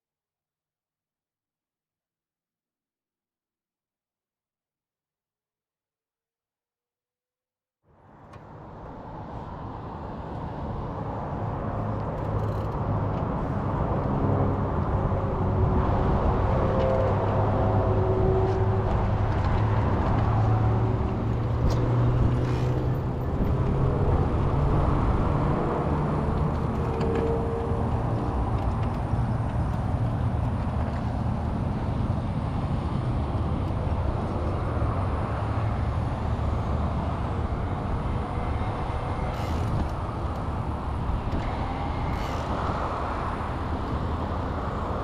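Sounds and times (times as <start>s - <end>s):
road traffic: 7.9s - 45.0s
vehicle engine hum: 7.9s - 45.0s.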